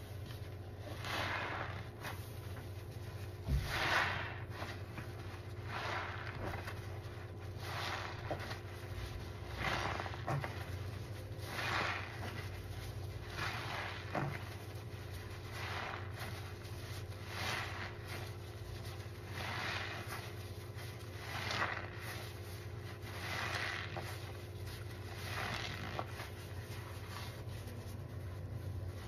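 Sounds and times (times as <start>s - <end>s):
sponges squelching in foam: 0.0s - 29.0s
steady low hum: 0.0s - 29.0s.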